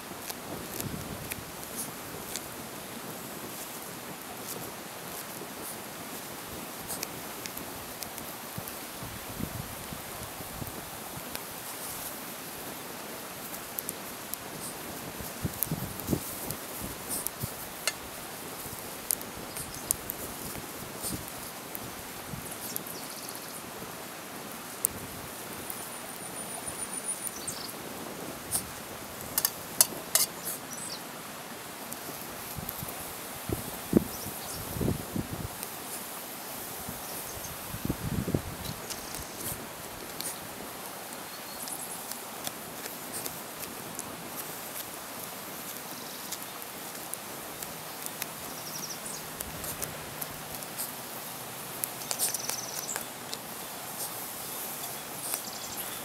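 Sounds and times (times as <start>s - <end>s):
fire popping: 0.0s - 23.0s, 27.4s - 56.0s
campfire crackling: 0.0s - 56.0s
outdoor background noise: 0.0s - 56.0s.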